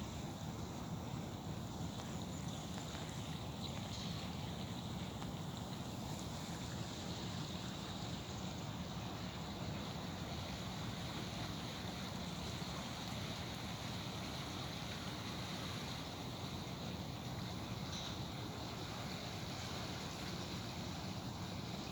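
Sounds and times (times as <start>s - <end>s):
river current rushing: 0.0s - 21.9s.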